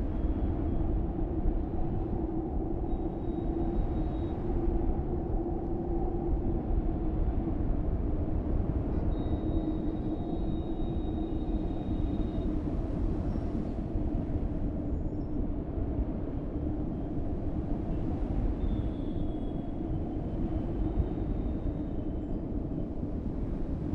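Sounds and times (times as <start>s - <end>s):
strong wind howling: 0.0s - 23.9s.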